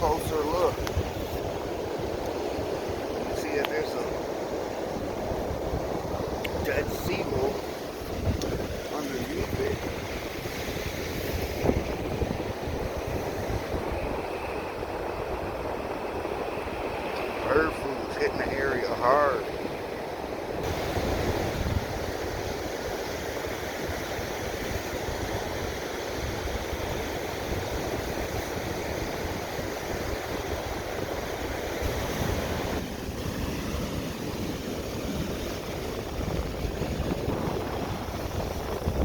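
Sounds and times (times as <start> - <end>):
waves washing onto shore: 0.0 - 39.0
wind buffeting microphone: 0.0 - 39.0.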